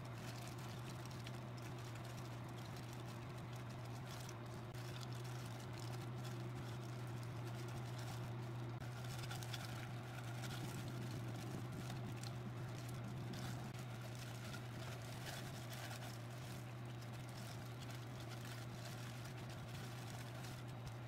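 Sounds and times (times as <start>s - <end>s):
gloved hands rustling and squishing: 0.0s - 21.0s
steady low hum: 0.0s - 21.0s.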